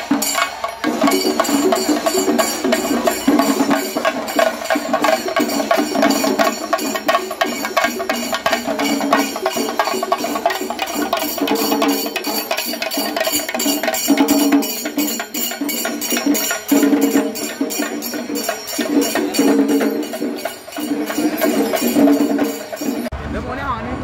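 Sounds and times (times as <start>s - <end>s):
fast drum rhythm: 0.0s - 23.1s.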